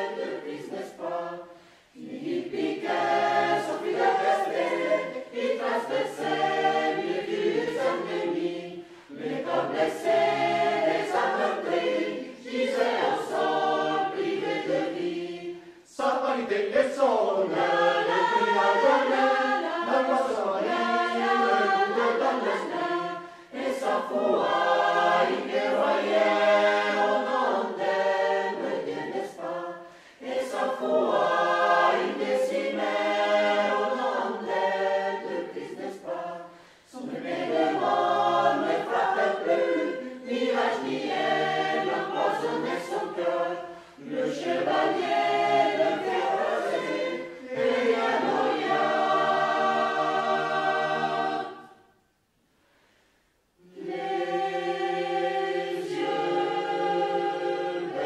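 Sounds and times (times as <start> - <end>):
choir singing unaccompanied: 0.0 - 52.0, 53.6 - 58.0.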